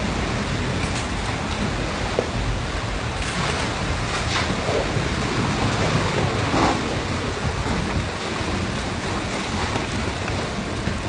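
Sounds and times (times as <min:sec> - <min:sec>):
heavy rain: 0:00.0 - 0:11.0
storm wind: 0:00.0 - 0:11.0.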